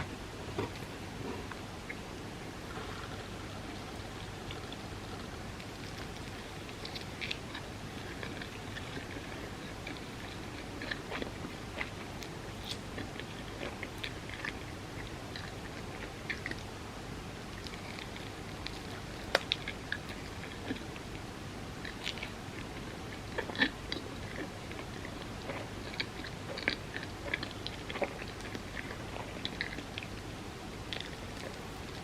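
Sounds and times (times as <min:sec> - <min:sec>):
chewing and wet mouth sounds: 0:00.0 - 0:32.0
steady low hiss: 0:00.0 - 0:32.0.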